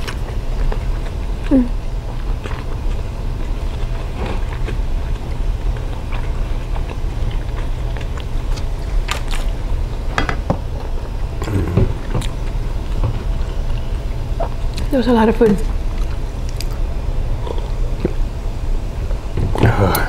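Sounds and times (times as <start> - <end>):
close-miked chewing: 0.0 - 10.1, 10.8 - 18.3
steady low hum: 0.0 - 20.0.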